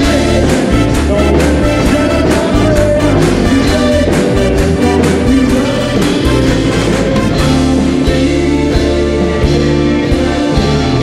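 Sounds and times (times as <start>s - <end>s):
electric bass: 0.0s - 11.0s
live band playing dance music: 0.0s - 11.0s
steady drum beat: 0.0s - 11.0s.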